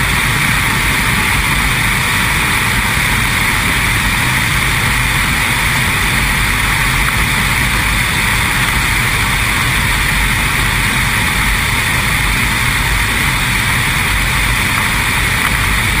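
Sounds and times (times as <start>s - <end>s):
aircraft engine and propeller: 0.0s - 16.0s
wind rushing over microphone: 0.0s - 16.0s.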